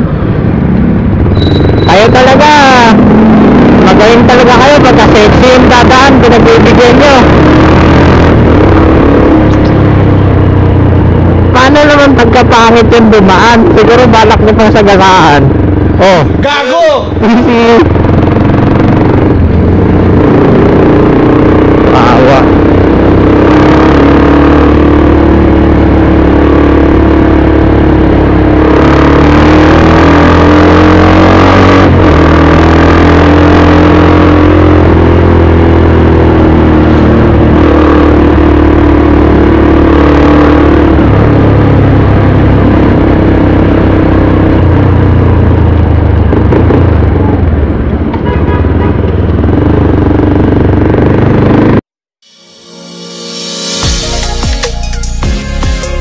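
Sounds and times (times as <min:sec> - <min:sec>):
motorcycle engine running: 0:00.0 - 0:51.8.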